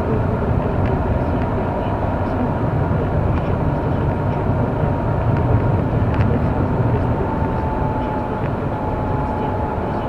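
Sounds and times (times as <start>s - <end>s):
engine and tyre rumble: 0.0s - 10.0s
faint steady whine: 0.0s - 10.0s.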